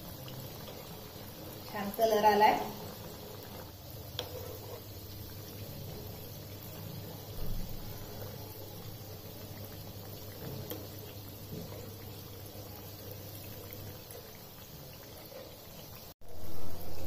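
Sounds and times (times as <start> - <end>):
oil bubbling while frying: 0.0 - 17.0.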